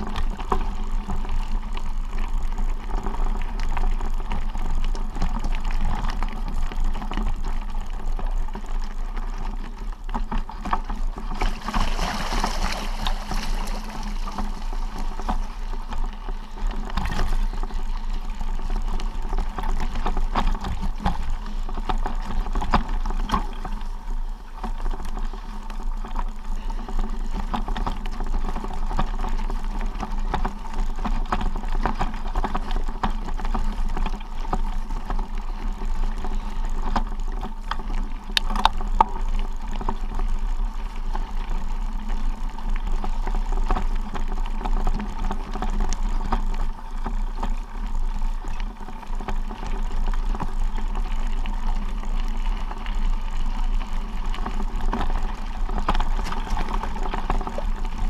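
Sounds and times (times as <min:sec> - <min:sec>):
rumble of travel over gravel: 0:00.0 - 0:58.0.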